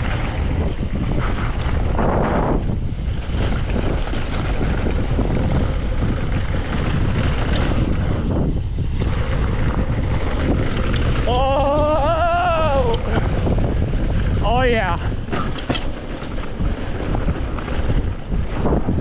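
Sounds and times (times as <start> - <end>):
bike tyres rattling over ground: 0.0 - 19.0
wind rushing over microphone: 0.0 - 19.0.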